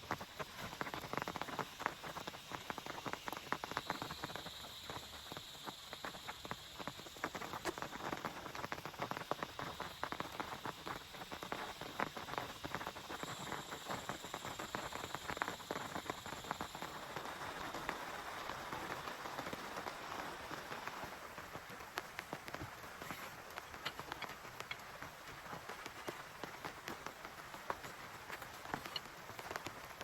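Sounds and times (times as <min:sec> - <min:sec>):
heavy rain on a tent: 0:00.0 - 0:30.0.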